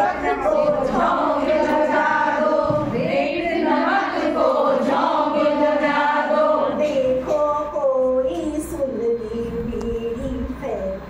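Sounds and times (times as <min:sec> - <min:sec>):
women singing together: 0:00.0 - 0:10.9.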